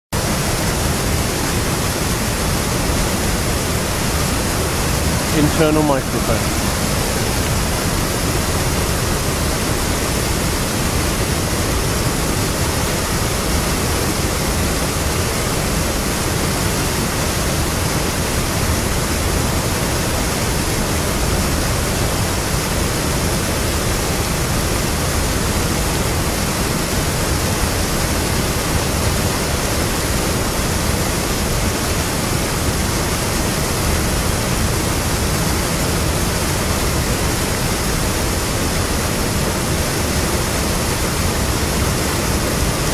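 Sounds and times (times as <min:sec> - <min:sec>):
water rushing over weir: 0:00.2 - 0:42.9.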